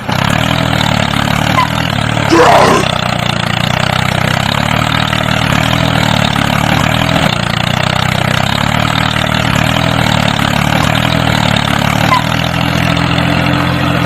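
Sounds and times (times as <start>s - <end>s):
small tractor engine running: 0.0s - 14.0s.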